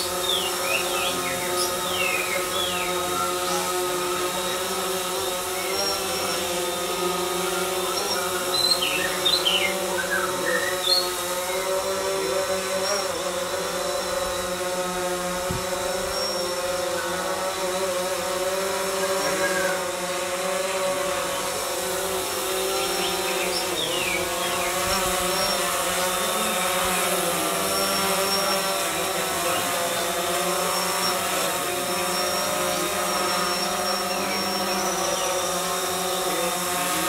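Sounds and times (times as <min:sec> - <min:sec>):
drone propellers buzzing: 0:00.0 - 0:37.0.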